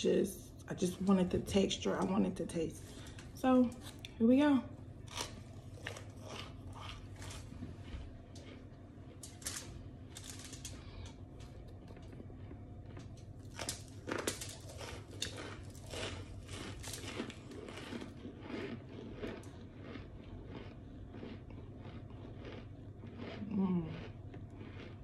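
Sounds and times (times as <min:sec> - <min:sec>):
crunching and chewing: 0:04.9 - 0:25.0.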